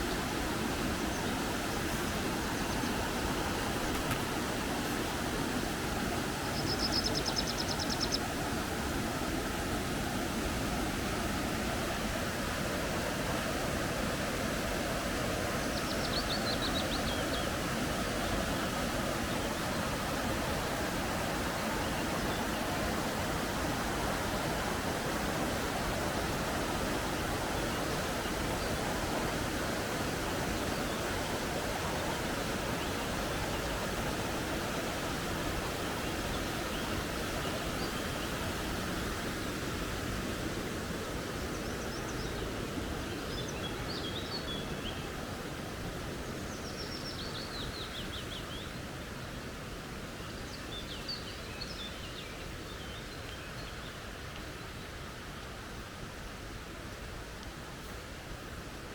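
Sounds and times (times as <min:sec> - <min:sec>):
creek water rushing: 0:00.0 - 0:58.9.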